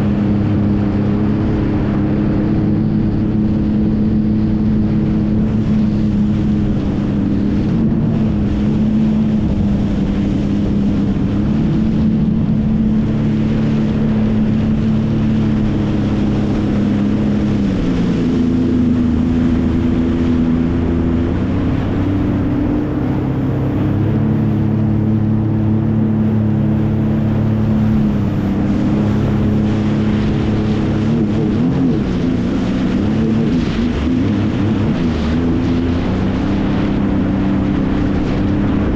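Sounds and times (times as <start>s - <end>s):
jet ski engine running: 0.0s - 38.9s
water spray rushing: 0.0s - 38.9s.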